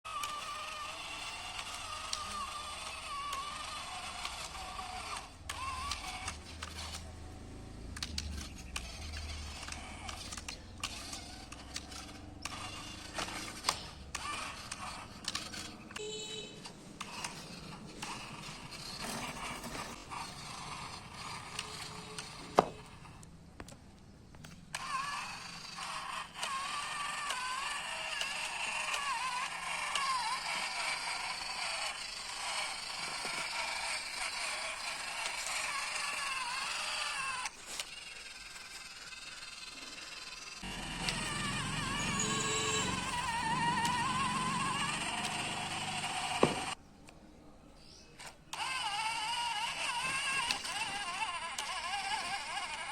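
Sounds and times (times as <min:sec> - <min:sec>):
small electric motor whining: 0:00.1 - 0:23.3, 0:24.4 - 0:46.8, 0:47.9 - 0:52.9
plastic gears creaking and clicking: 0:00.1 - 0:46.8, 0:47.8 - 0:52.9.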